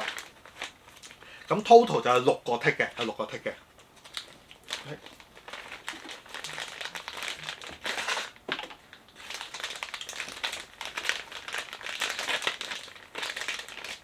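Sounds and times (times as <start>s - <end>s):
packaging crackling and rustling: 0.0s - 14.0s.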